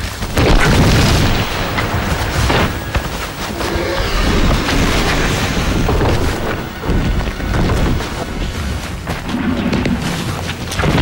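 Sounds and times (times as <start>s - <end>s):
elephants fighting low rumble: 0.0s - 11.0s.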